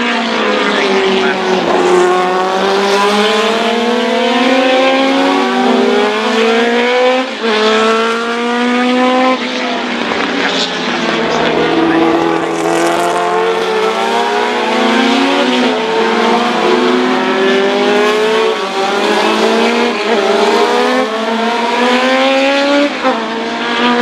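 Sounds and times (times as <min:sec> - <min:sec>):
racing cars accelerating: 0:00.0 - 0:24.0.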